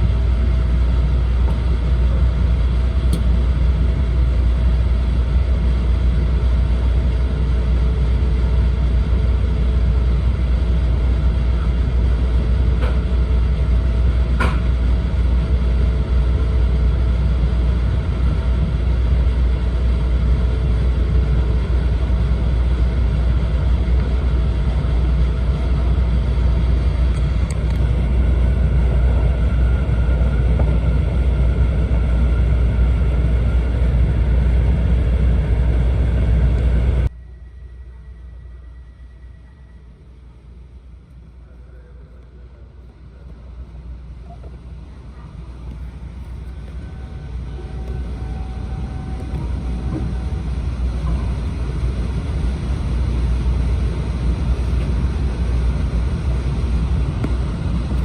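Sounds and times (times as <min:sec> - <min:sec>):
train cabin rumble: 0:00.0 - 0:58.0.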